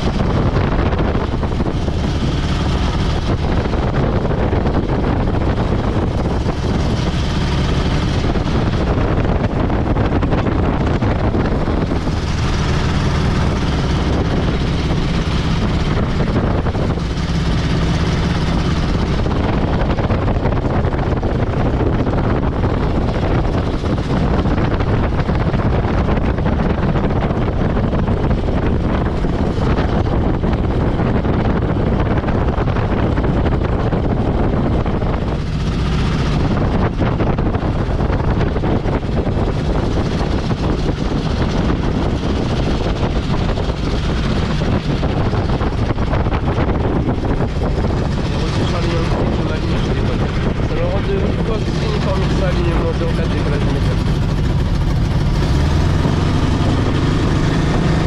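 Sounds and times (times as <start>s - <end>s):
ultralight engine and propeller running: 0.0s - 58.0s
wind rushing over microphone: 0.0s - 58.0s.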